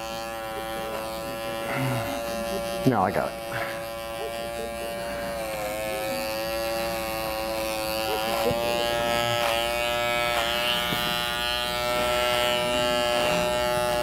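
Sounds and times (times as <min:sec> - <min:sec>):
electric pet clippers buzzing: 0:00.0 - 0:14.0.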